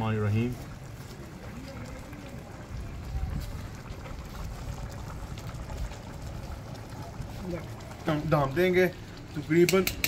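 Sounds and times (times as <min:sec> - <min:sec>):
low rumble and hiss: 0:00.0 - 0:09.7.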